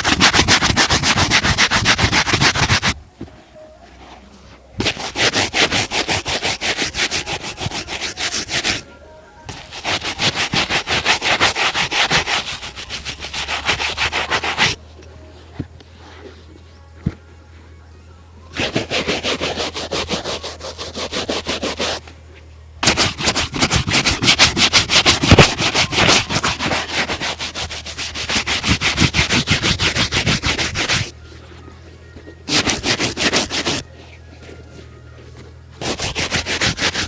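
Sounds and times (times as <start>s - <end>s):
shoe being buffed: 0.0s - 8.9s, 9.5s - 14.8s, 18.5s - 22.0s, 22.8s - 37.0s.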